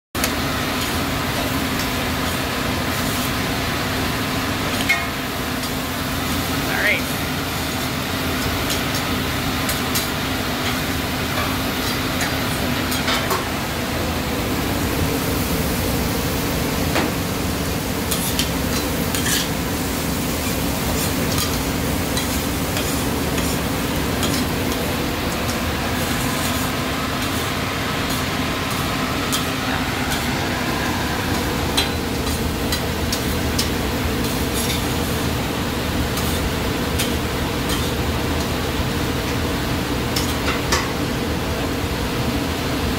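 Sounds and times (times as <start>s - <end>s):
food sizzling on griddle: 0.2s - 42.8s.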